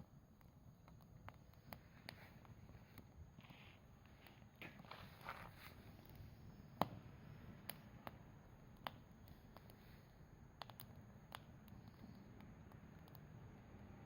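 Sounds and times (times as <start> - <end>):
faint fire hiss: 0.0 - 14.0.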